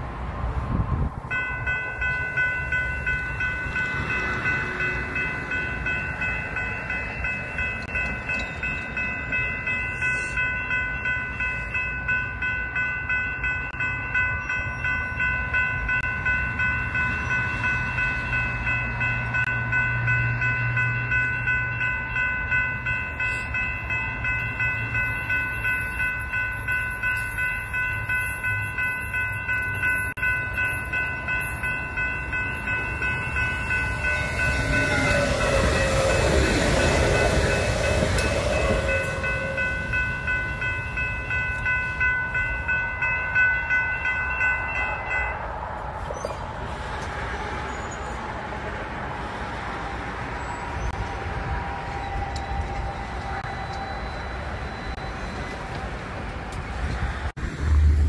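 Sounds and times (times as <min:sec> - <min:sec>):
railroad crossing bell ringing: 0:01.3 - 0:57.0.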